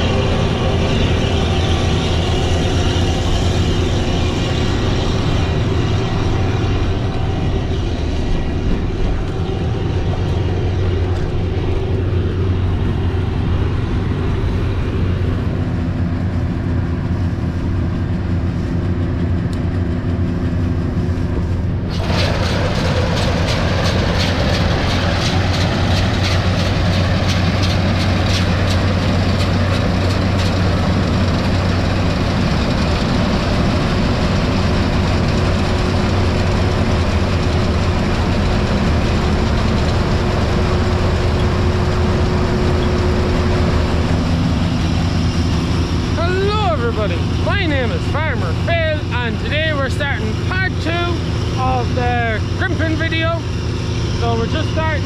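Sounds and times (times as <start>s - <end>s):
machine noise with rapid rattle: 0.0s - 15.8s, 17.1s - 55.0s
heavy farm machinery engine hum: 0.0s - 55.0s.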